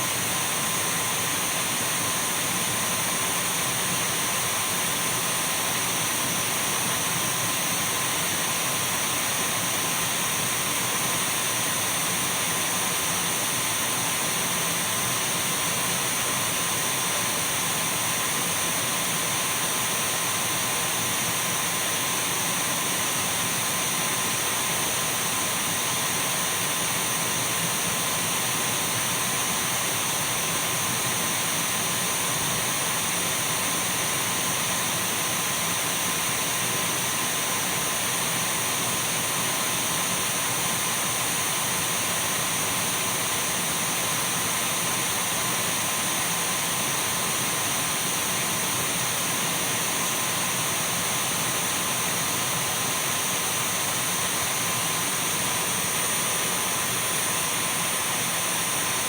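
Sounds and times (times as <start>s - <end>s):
cordless vacuum running: 0.0s - 59.0s.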